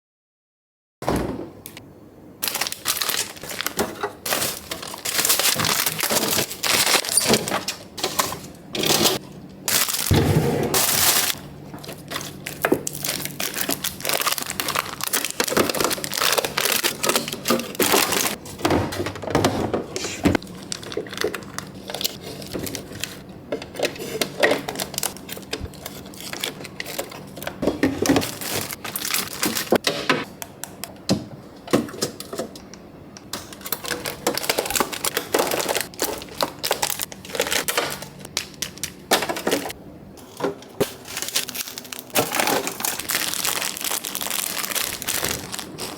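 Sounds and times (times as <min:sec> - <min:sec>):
plastic bags crinkling: 0:02.4 - 0:10.2, 0:10.8 - 0:18.6, 0:20.3 - 0:29.8, 0:33.3 - 0:45.9
items clicking and clattering: 0:02.4 - 0:45.9.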